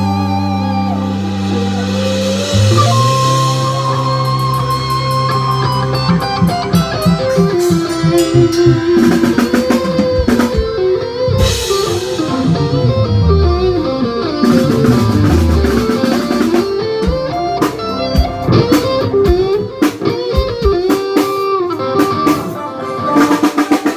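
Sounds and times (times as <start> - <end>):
bass line: 0.0 - 19.6
drum kit: 0.0 - 23.9
plucked guitar melody: 0.0 - 23.9.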